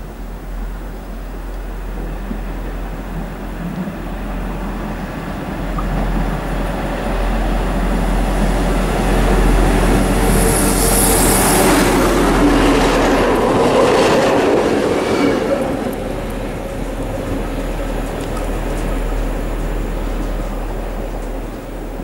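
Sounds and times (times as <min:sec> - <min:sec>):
diesel locomotive engine drone: 0:00.0 - 0:22.0
train wheels on rails: 0:00.0 - 0:22.0.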